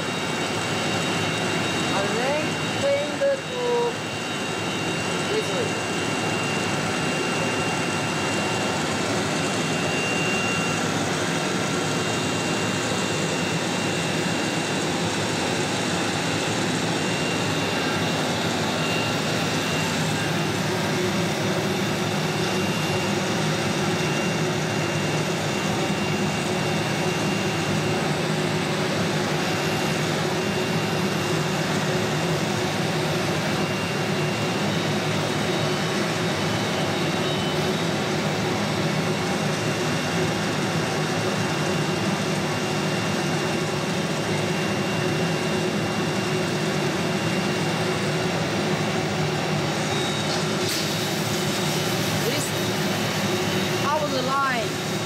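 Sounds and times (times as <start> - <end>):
machinery whirring with whine: 0.0 - 55.0.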